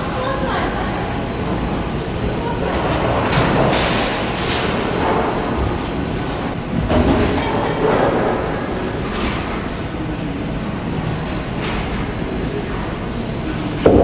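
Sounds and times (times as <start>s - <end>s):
bowling pins clattering: 0.7s - 14.0s
bowling balls rolling: 1.1s - 11.9s, 13.6s - 14.0s.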